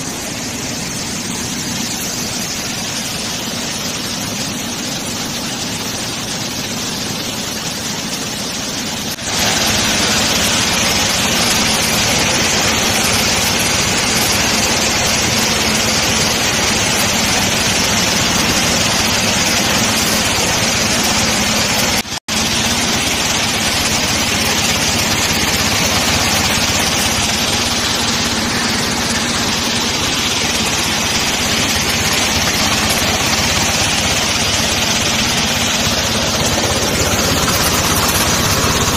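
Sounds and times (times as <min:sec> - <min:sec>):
machine hum: 0:00.0 - 0:38.9
rushing water: 0:00.0 - 0:38.9.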